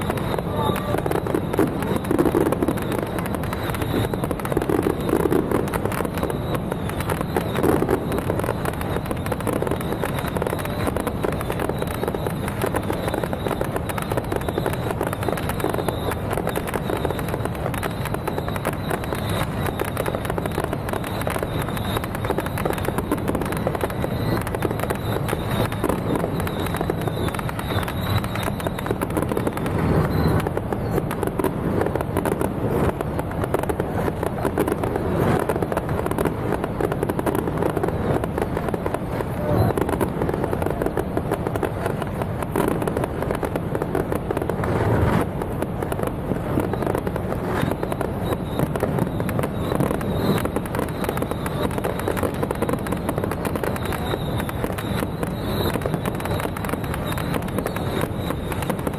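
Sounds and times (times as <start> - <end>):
fireworks booms: 0.0 - 58.9
fireworks crackling: 0.0 - 58.9.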